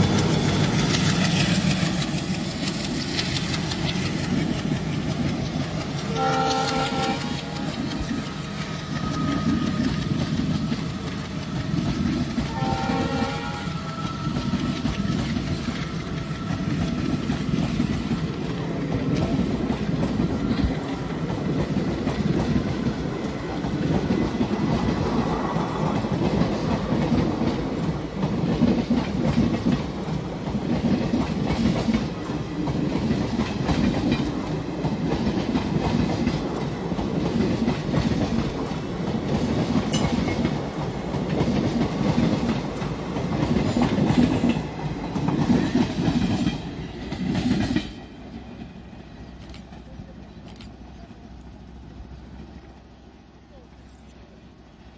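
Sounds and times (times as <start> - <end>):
clickety-clack over rail joints: 0.0 - 54.4
train wheels rumbling on rail: 0.0 - 54.9.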